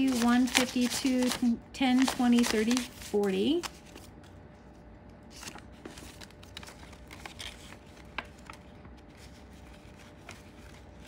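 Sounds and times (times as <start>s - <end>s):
paper banknotes rustling: 0.0s - 4.3s, 5.2s - 11.0s.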